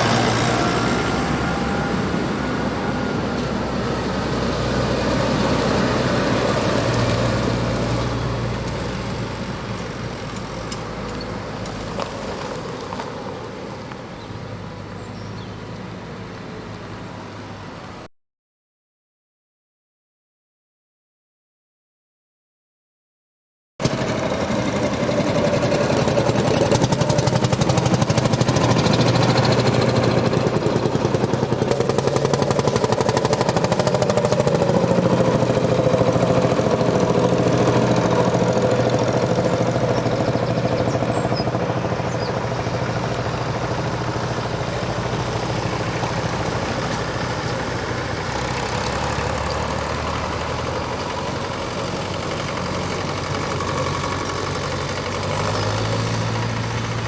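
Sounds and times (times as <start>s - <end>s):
tractor engine running: 0.0s - 18.0s, 23.8s - 57.0s.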